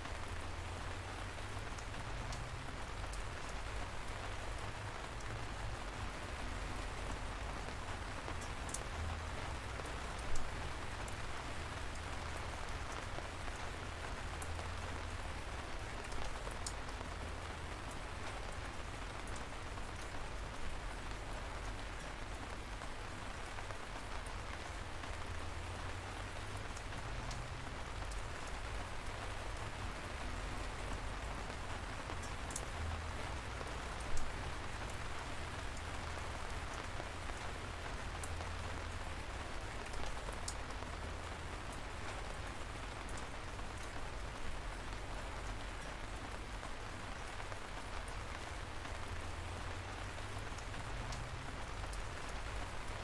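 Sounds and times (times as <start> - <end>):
light rain hissing: 0.0 - 53.0
raindrops ticking: 0.0 - 53.0.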